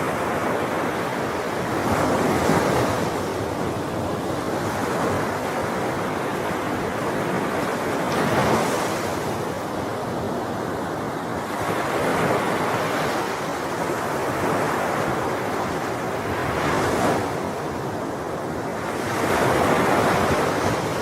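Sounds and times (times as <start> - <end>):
sea waves breaking on shore: 0.0 - 21.0.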